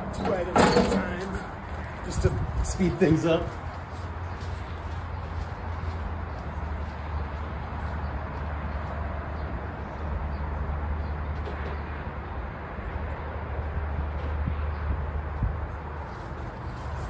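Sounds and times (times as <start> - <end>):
outdoor background rumble and hiss: 0.0 - 17.0.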